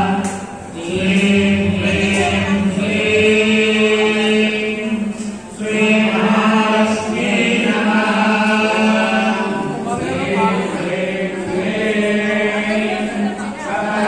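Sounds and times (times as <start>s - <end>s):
group chanting a hymn: 0.0s - 14.0s.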